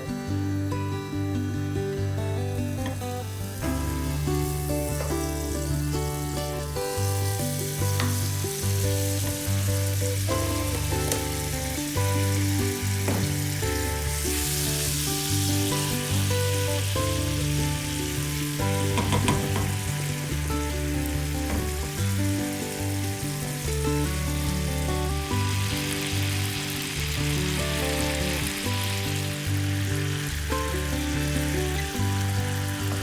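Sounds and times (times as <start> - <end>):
background music with bass: 0.0 - 33.0
food sizzling in a pan: 1.8 - 33.0.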